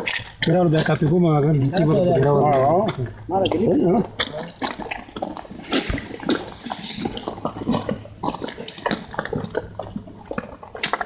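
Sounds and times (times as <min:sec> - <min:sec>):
mouths chewing wetly: 0:00.0 - 0:11.0.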